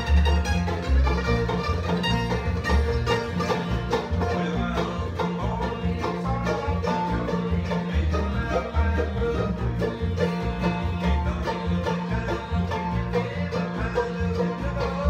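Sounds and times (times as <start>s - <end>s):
plucked upright bass: 0.0s - 15.0s
rapid banjo picking: 0.0s - 15.0s
strummed acoustic guitars: 0.0s - 15.0s.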